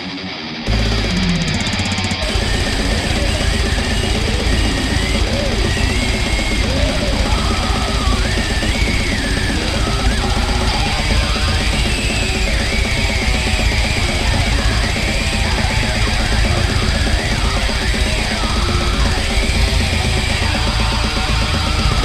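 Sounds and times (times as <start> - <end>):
distorted guitar: 0.0 - 22.0
fast drumming: 0.7 - 22.0.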